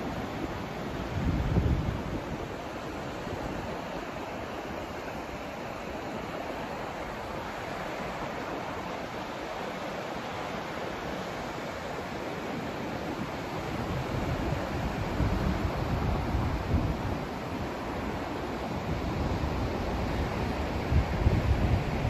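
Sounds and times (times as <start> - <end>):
steady white noise hiss: 0.0 - 22.0.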